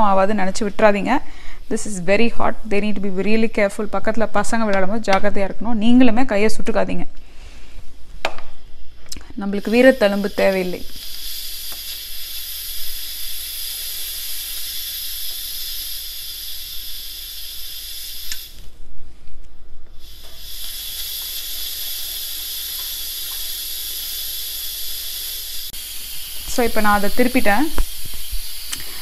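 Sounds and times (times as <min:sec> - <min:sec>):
pressure cooker venting steam: 0:00.0 - 0:05.3, 0:08.5 - 0:18.8, 0:19.9 - 0:29.0.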